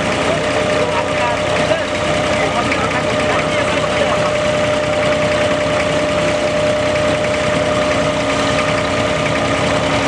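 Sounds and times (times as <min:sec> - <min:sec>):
boat diesel engine running: 0:00.0 - 0:10.0.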